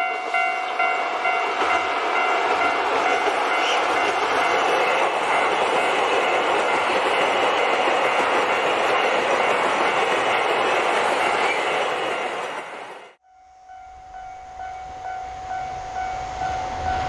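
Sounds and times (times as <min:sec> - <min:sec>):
train rushing past on rails: 0:00.0 - 0:17.0.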